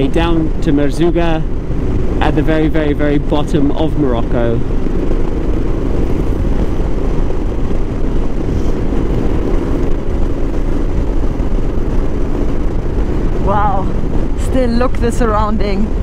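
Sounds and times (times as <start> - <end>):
motorcycle engine running: 0.0 - 16.0
road rumble: 0.0 - 16.0
wind on microphone: 0.0 - 16.0.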